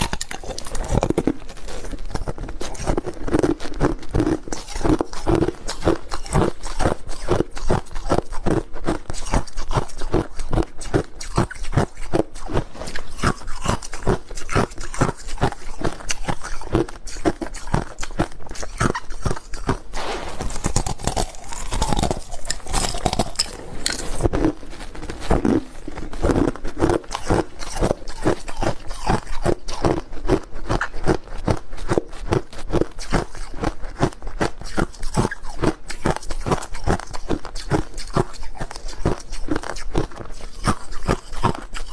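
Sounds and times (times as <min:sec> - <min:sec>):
ice crunching while chewed: 0:00.0 - 0:41.9.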